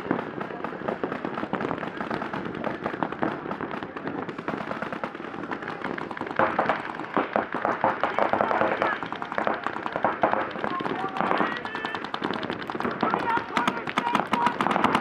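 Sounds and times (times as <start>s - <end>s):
paintball markers firing: 0.0s - 15.0s.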